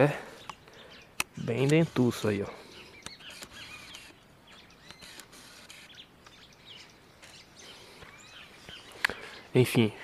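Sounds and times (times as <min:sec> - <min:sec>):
bird chirps: 0:00.0 - 0:09.6
rising and falling bird calls: 0:00.0 - 0:09.7.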